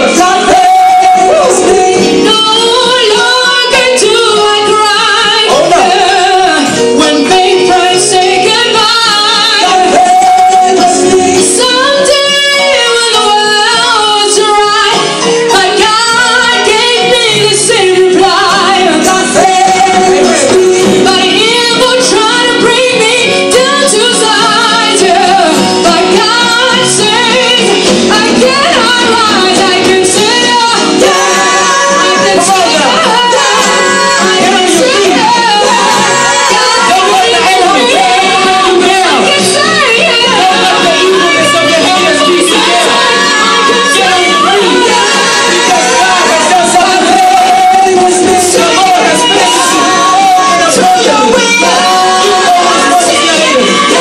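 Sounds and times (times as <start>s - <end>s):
band accompaniment: 0.0s - 54.0s
choir singing gospel: 0.0s - 54.0s
female voices singing: 0.0s - 54.0s.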